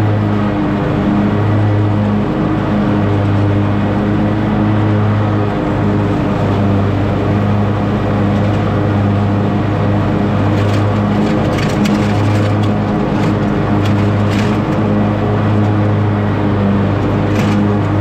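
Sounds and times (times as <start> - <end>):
small gasoline engine running: 0.0 - 18.0.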